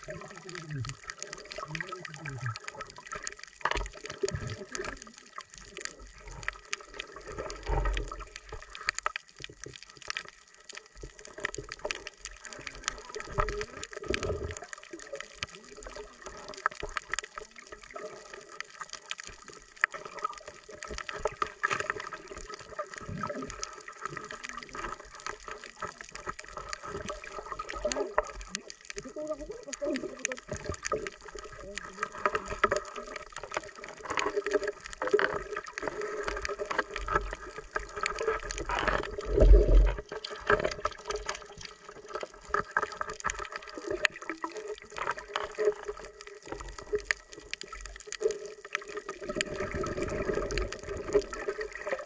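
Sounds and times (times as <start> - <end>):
dense crackle of clicks: 0.0 - 52.0
muffled underwater movement: 0.0 - 52.0.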